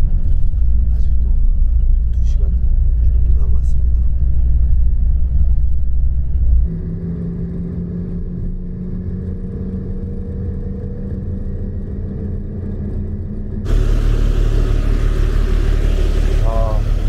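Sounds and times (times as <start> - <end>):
bus engine and road rumble: 0.0 - 17.0
engine hum with held tones: 0.0 - 17.0.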